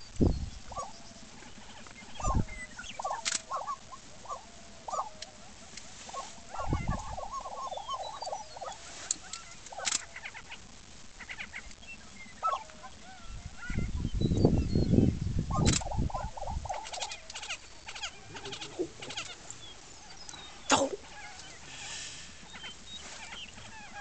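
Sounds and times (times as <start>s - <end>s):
prairie chickens yelping and gobbling: 0.1s - 24.0s.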